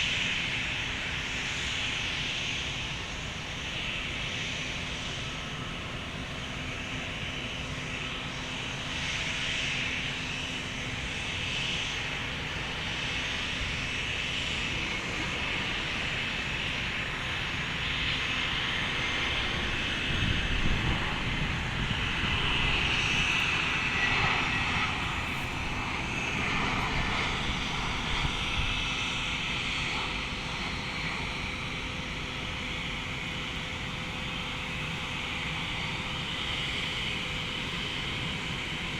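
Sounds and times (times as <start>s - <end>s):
jet airliner engine whine: 0.0s - 38.9s.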